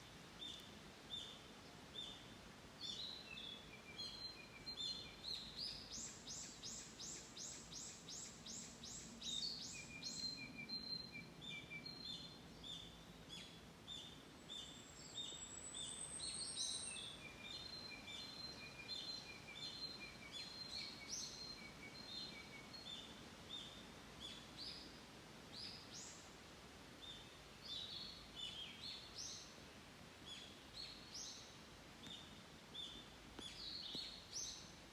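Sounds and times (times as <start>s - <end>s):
faint steady hiss: 0.0s - 34.9s.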